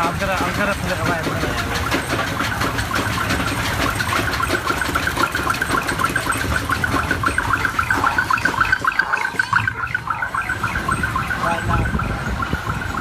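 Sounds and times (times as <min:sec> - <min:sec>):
coaster machinery clicking: 0:00.0 - 0:13.0.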